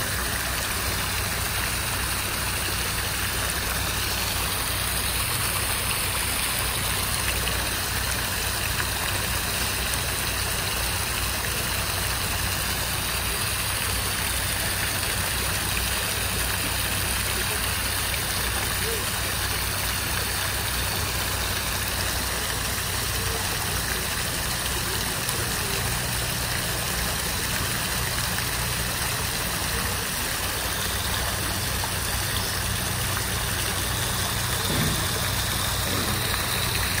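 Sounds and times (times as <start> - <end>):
water fountain splashing: 0.0 - 37.0.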